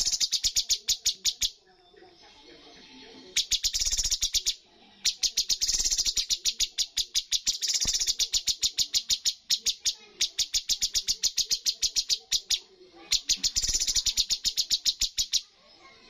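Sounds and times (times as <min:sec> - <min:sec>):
songbird rapid chipping call: 0:00.0 - 0:01.6, 0:03.4 - 0:15.5.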